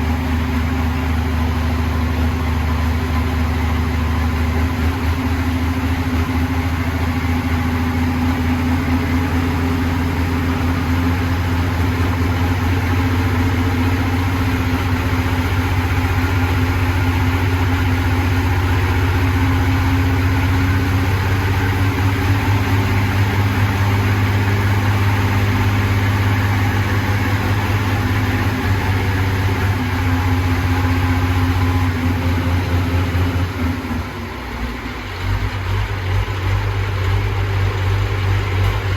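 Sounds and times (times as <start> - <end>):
diesel tractor engine idling: 0.0 - 38.9.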